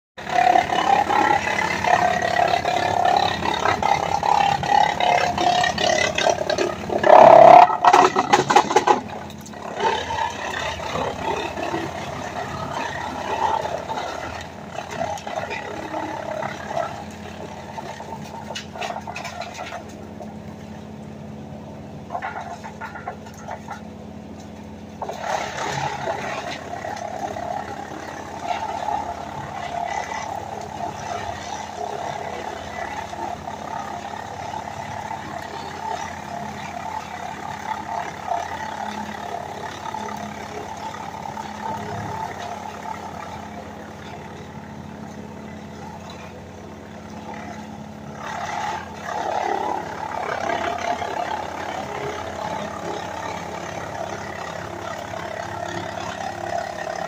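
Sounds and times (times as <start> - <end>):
wood chipper machine drone: 0.2 - 57.0
wood clattering through chipper: 0.2 - 57.0
woodchipper grinding brush: 0.2 - 57.0.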